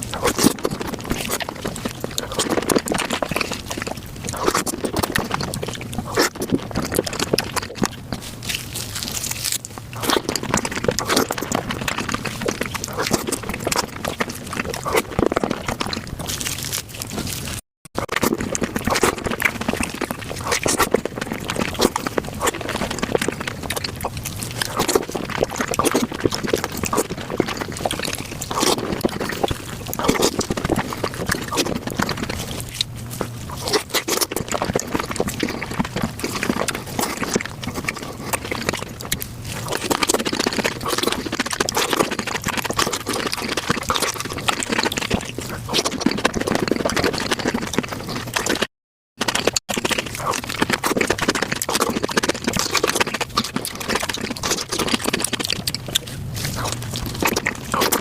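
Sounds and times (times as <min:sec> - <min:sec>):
rapid chewing crunches: 0:00.0 - 0:58.0.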